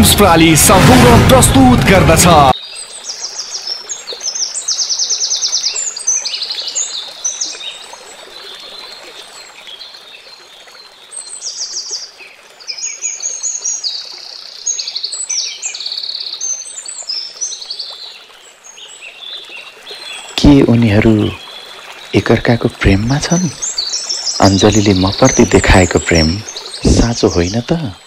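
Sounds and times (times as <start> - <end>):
running water rushing: 0.0 - 28.0
small birds chirping and trilling: 2.3 - 28.0.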